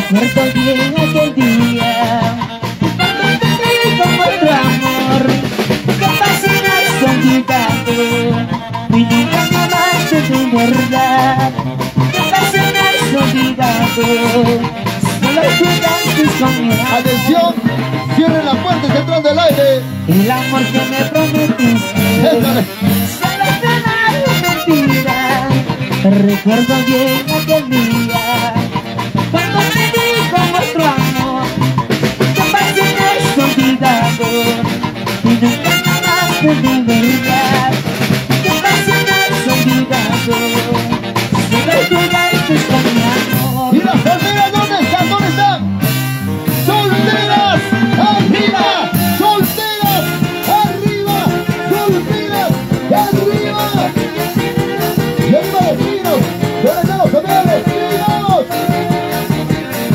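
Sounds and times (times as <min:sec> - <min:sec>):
saxophones and clarinets melody: 0:00.0 - 0:59.9
steady beat: 0:00.0 - 0:59.9.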